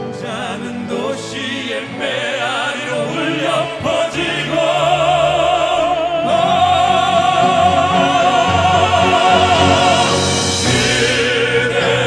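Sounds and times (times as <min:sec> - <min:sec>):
male vocal quartet singing: 0:00.0 - 0:12.0
orchestral accompaniment: 0:00.0 - 0:12.0.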